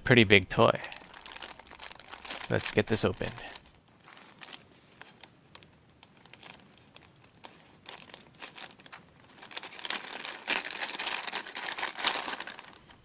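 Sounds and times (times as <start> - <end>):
plastic packaging crinkling: 0.6 - 13.0.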